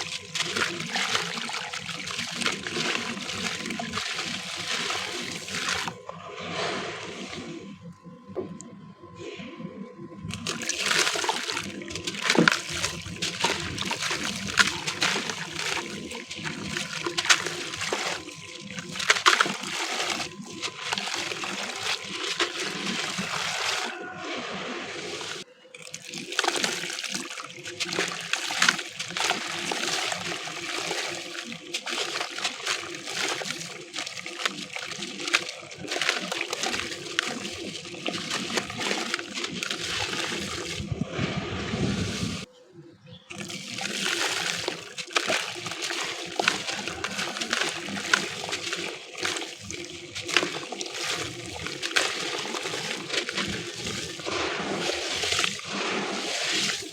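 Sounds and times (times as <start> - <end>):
concrete crumbling wet crunching: 0.0 - 6.0, 10.3 - 40.9, 43.3 - 56.9
water trickling and splashing: 0.0 - 8.6, 10.2 - 42.5, 43.3 - 56.9.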